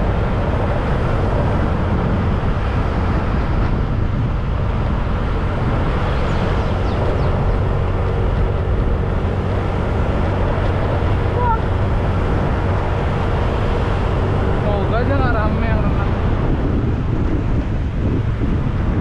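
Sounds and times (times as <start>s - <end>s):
motorcycle engine riding: 0.0s - 19.0s
rush of travel: 0.0s - 19.0s.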